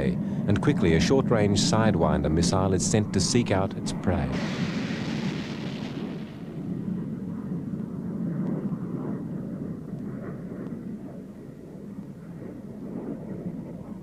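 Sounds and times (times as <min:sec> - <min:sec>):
jet roar: 0:00.0 - 0:14.0.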